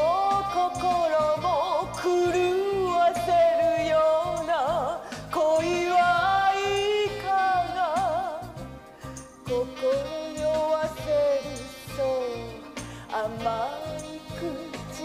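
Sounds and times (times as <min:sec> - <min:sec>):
woman singing: 0:00.0 - 0:08.7, 0:09.4 - 0:15.0.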